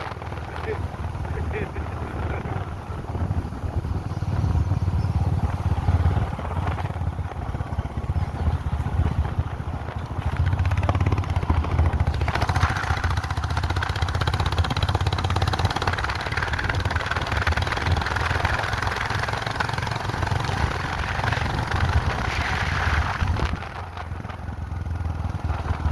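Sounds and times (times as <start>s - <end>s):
rattling road noise: 0.0s - 25.9s
vehicle engine running: 0.0s - 25.9s.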